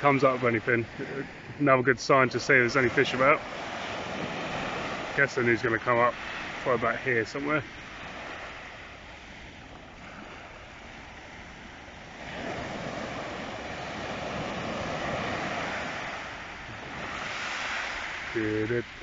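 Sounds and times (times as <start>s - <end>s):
waves washing on shingle beach: 0.0s - 19.0s.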